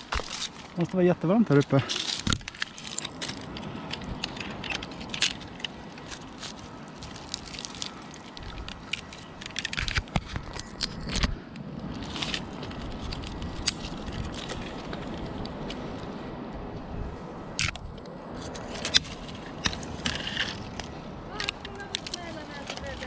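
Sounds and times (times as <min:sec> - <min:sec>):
rope scraping on bark: 0:00.0 - 0:00.8, 0:01.6 - 0:11.1, 0:11.9 - 0:16.1, 0:18.3 - 0:23.0.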